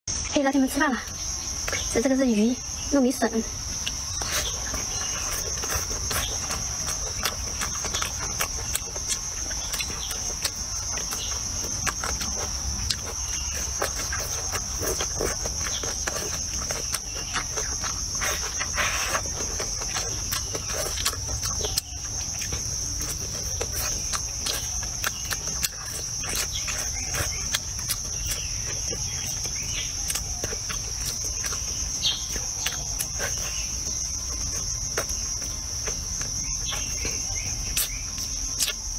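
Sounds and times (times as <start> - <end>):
high-pitched insect chorus: 0.1 - 38.9
close-up chewing: 1.1 - 38.9.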